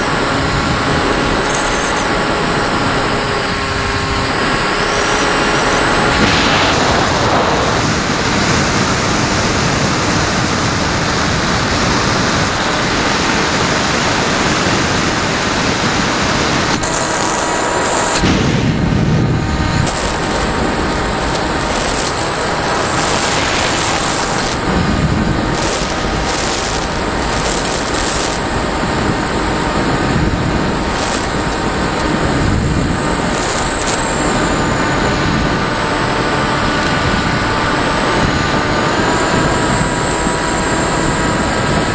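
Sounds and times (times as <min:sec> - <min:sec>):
air rushing: 0:00.0 - 0:41.9
electric motor whine: 0:00.0 - 0:41.9.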